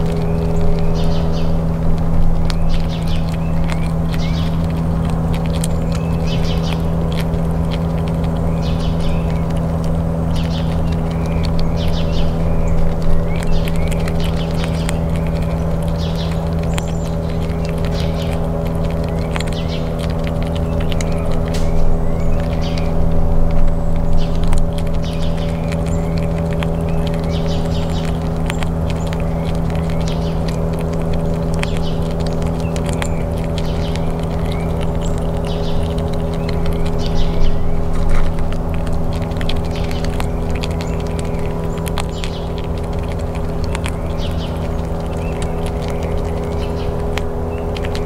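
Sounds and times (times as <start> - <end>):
birds chirping faintly: 0.0 - 48.0
low machine hum: 0.0 - 48.0
squirrel chewing clicks: 0.0 - 48.0.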